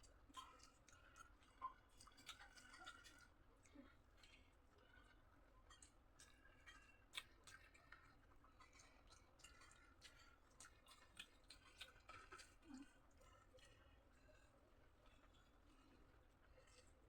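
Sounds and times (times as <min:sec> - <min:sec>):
person chewing food: 0:00.3 - 0:17.0.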